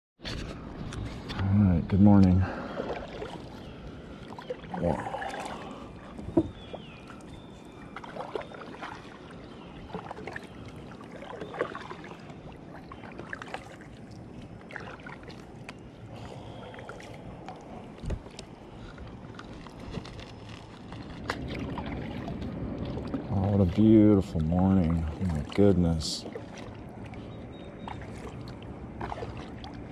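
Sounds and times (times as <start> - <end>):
kayak paddle strokes in water: 2.1 - 29.9.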